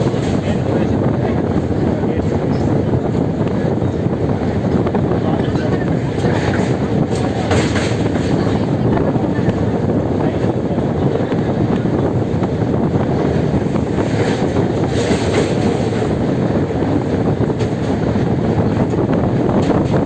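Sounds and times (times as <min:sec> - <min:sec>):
moving vehicle: 0:00.0 - 0:20.0
wind buffeting microphone: 0:00.0 - 0:20.0.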